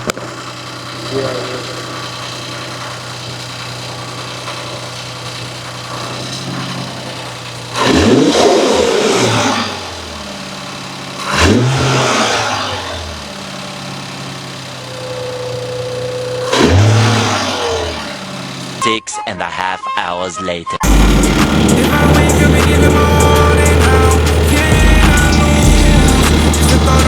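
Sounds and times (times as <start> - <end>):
car engine idling and revving: 0.0 - 18.9, 20.8 - 27.0
steady whine: 0.0 - 18.9, 20.8 - 27.0.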